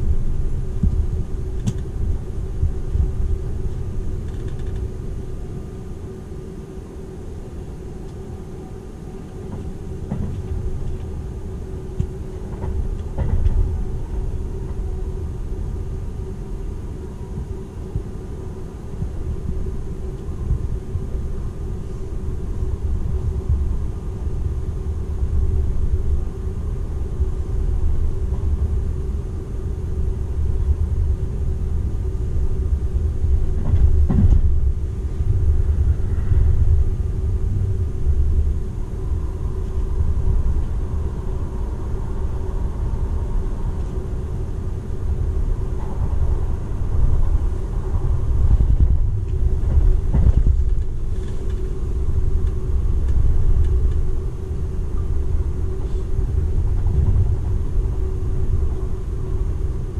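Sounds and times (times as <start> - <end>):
constant hum: 0.0 - 59.9
train wheels rumbling on rail: 0.0 - 59.9.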